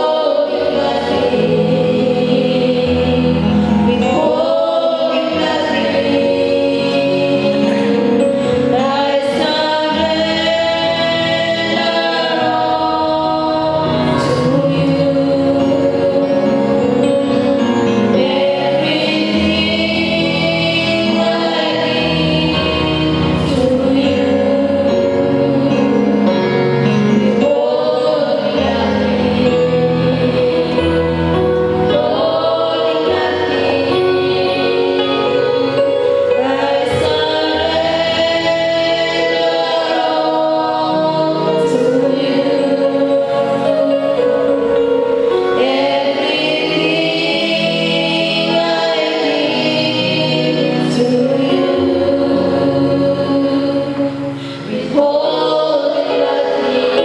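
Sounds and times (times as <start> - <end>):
choir singing gospel song: 0.0 - 57.0
instrumental accompaniment: 0.0 - 57.0.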